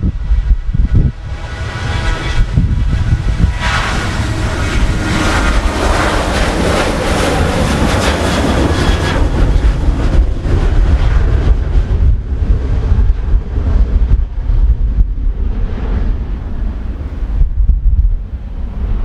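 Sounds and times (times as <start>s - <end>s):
airliner engines roaring: 0.0s - 19.0s
wind buffeting microphone: 0.0s - 19.0s.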